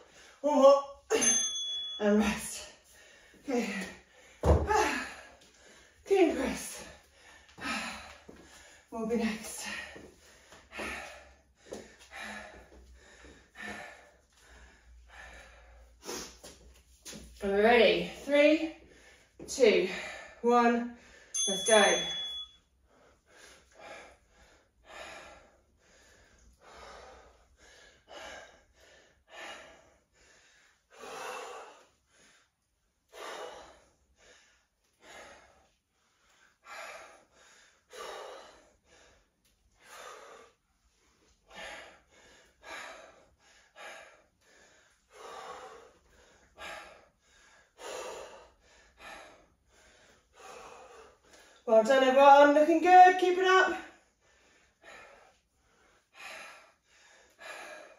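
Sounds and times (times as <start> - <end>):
person breathing hard: 2.4 - 6.1, 6.7 - 17.2, 18.8 - 21.4, 22.8 - 51.7, 53.8 - 57.9.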